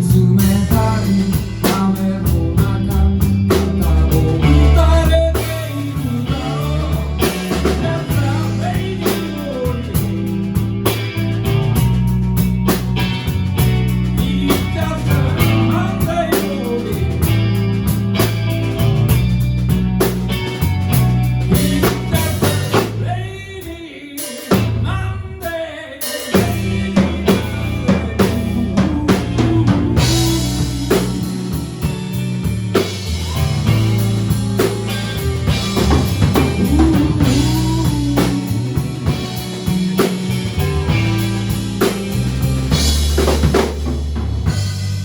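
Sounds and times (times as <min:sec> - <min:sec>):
blues band playing: 0:00.0 - 0:45.0.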